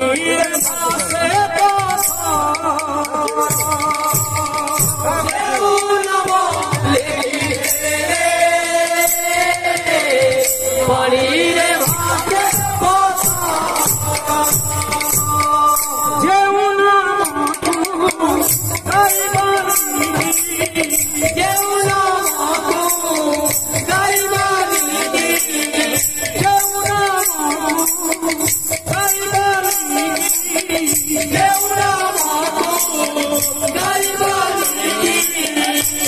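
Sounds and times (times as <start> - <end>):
hand drums: 0.0 - 36.0
jingling metal percussion: 0.0 - 36.0
voices singing: 0.0 - 36.0.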